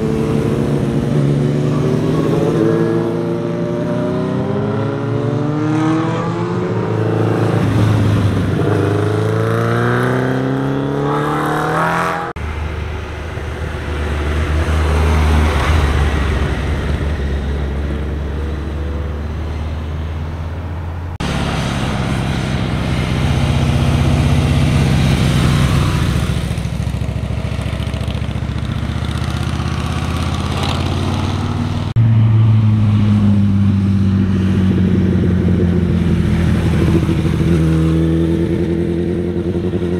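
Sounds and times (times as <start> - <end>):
motorcycle engines passing: 0.0 - 39.9.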